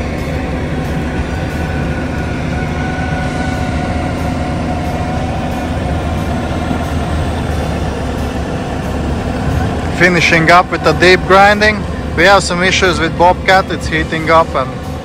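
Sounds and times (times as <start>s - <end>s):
high hydraulic whine: 0.0s - 15.0s
skid-steer engine under load: 0.0s - 15.0s.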